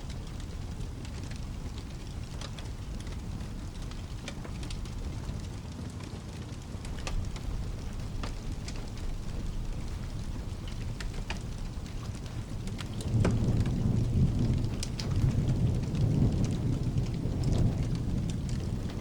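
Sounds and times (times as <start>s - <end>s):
steady rain: 0.0s - 19.0s
wood fire crackling and popping: 0.0s - 19.0s.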